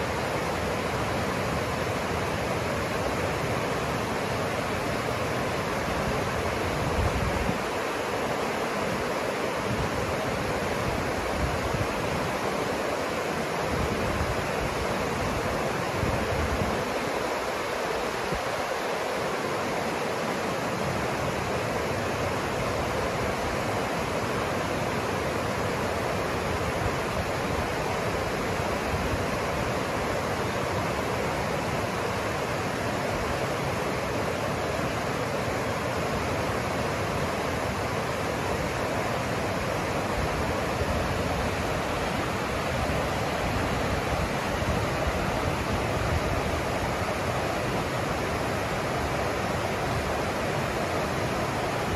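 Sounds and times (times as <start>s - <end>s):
river rushing over rocks: 0.0s - 51.9s.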